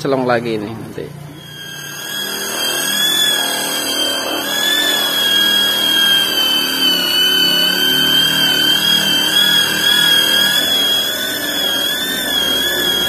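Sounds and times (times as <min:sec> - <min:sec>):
electric polisher whine: 0:00.1 - 0:13.0.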